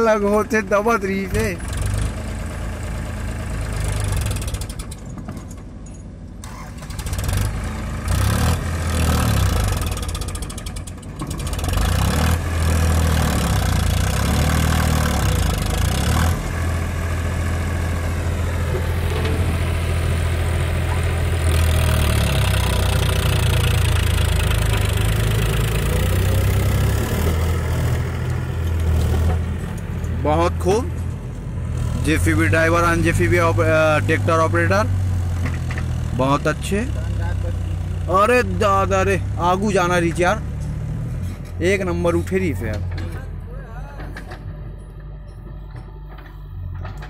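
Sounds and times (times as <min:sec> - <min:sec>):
backhoe loader diesel engine: 0:00.0 - 0:47.0
tractor diesel engine: 0:00.0 - 0:47.0.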